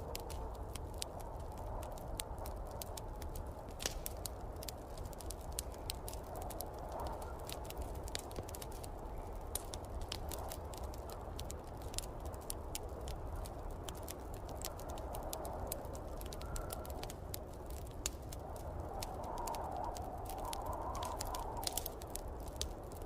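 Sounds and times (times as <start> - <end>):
storm wind gusting: 0.0 - 23.0
wood fire crackling and popping: 0.0 - 23.0.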